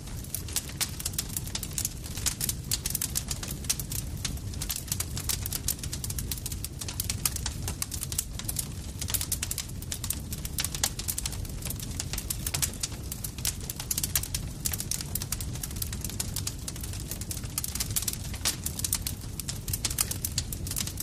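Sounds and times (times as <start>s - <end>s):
campfire crackling and popping: 0.0s - 21.0s
low rumble of burning wood: 0.0s - 21.0s.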